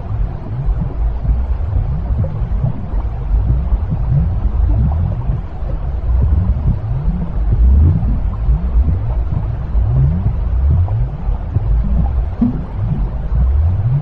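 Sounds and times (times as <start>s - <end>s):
low rumbling white noise: 0.0s - 14.0s.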